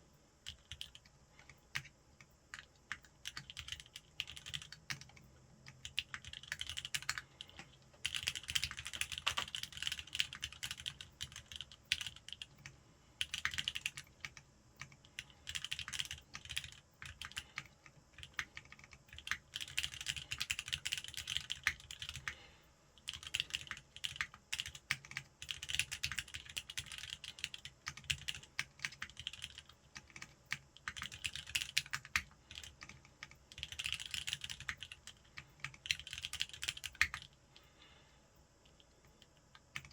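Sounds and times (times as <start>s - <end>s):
mechanical keyboard typing: 0.4s - 22.4s, 23.0s - 37.4s, 39.1s - 39.9s.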